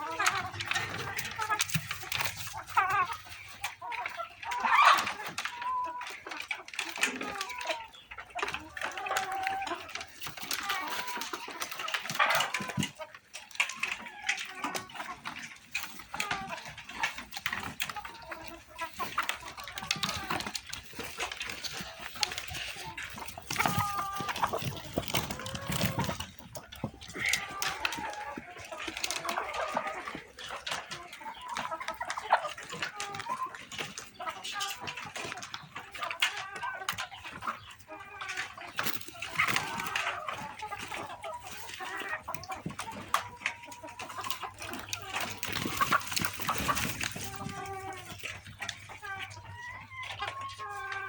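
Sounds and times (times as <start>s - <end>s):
chickens clucking: 0.0s - 51.0s
scratching noises: 0.0s - 51.0s.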